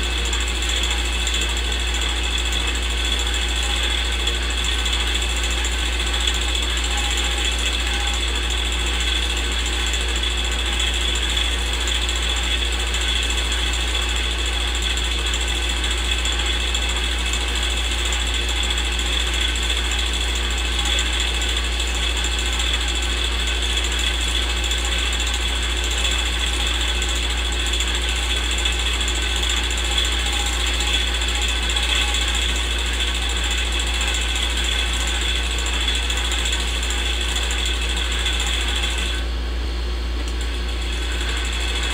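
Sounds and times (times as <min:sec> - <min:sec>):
film projector whirring: 0:00.0 - 0:41.9.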